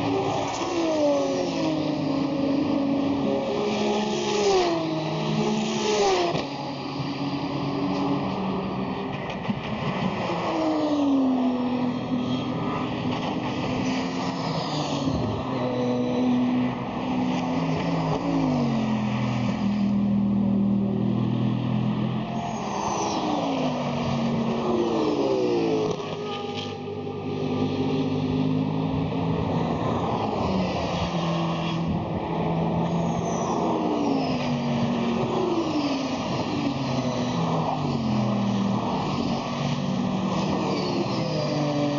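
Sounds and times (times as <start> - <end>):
race car engines running hard: 0.0 - 41.9.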